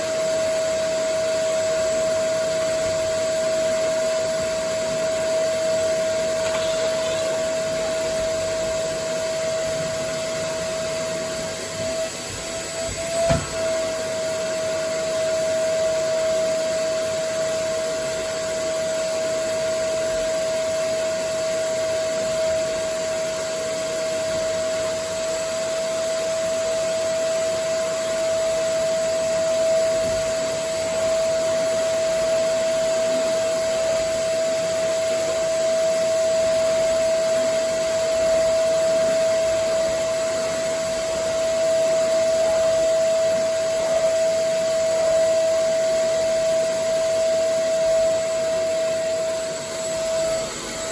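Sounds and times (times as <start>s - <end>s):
vacuum cleaner whining hum: 0.0s - 50.9s.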